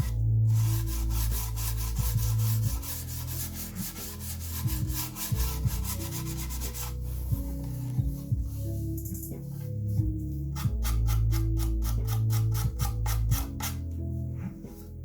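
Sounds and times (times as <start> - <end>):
bass and synth notes: 0.0 - 15.0.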